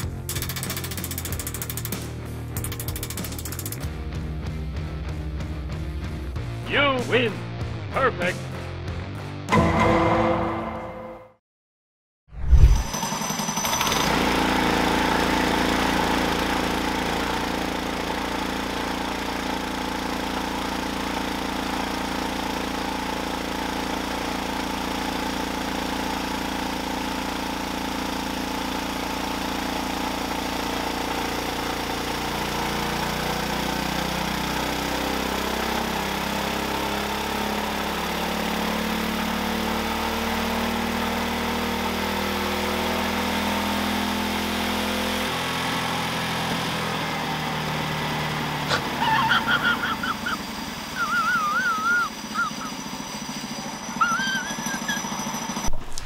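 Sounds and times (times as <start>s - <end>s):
mini bike engine running: 0.0s - 3.9s, 12.9s - 56.0s.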